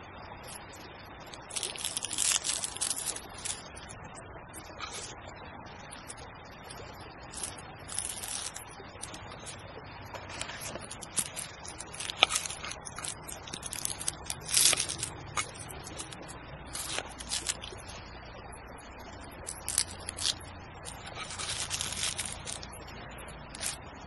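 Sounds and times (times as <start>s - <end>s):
scraping and rustling: 0.5s - 3.9s, 4.6s - 5.2s, 5.9s - 18.0s, 19.2s - 23.9s.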